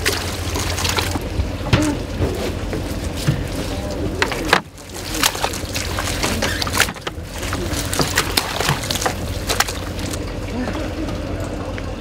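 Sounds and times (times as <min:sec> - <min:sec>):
steady low rumble: 0:00.0 - 0:12.0
water splashing and sloshing: 0:00.0 - 0:12.0.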